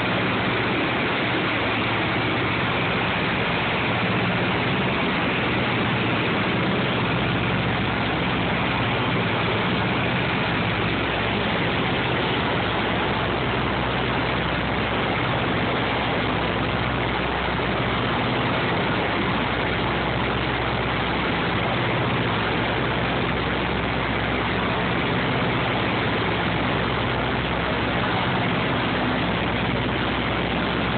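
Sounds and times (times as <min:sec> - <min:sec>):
propeller plane engines droning: 0:00.0 - 0:30.9
rush of air noise: 0:00.0 - 0:30.9.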